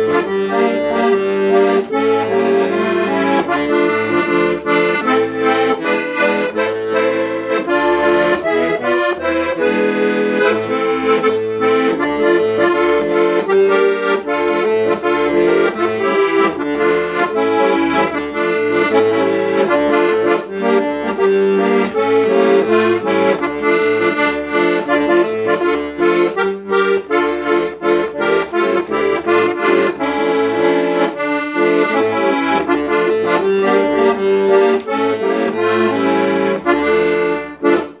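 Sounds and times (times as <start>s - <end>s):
piano accordion playing folk tune: 0.0s - 38.0s.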